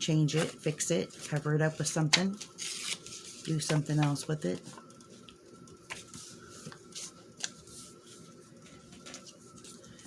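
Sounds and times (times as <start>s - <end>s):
faint high hum: 0.0s - 10.0s.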